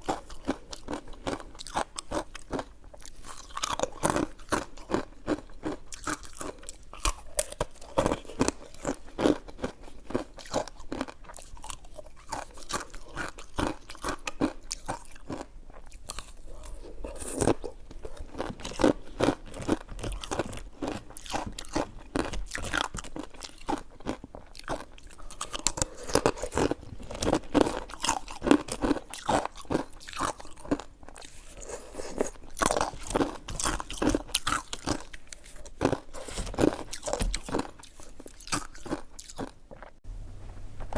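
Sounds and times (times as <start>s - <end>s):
chewing sticky rice cake: 0.0s - 40.0s.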